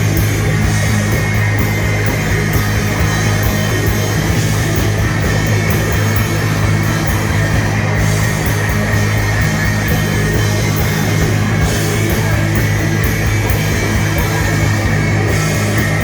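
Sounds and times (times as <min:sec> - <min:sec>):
drums: 0:00.0 - 0:16.0
electric guitar: 0:00.0 - 0:16.0
heavy bass: 0:00.0 - 0:16.0.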